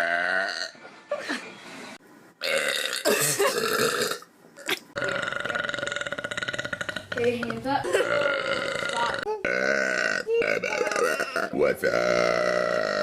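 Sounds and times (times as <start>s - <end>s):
person burping: 0.0s - 0.8s, 2.4s - 13.0s.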